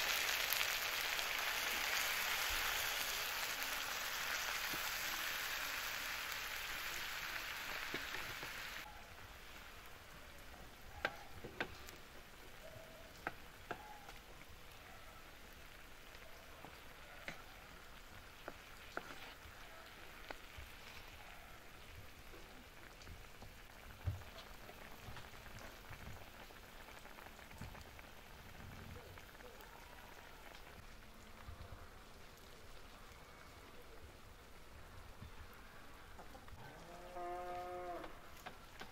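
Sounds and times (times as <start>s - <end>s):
sizzling and bubbling sauce: 0.0s - 38.9s.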